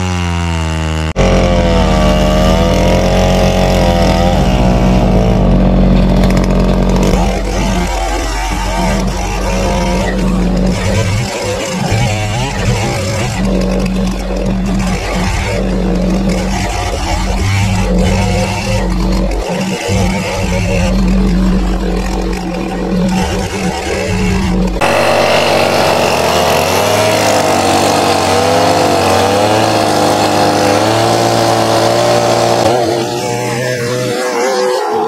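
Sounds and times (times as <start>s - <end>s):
chainsaw cutting log: 0.0s - 35.0s.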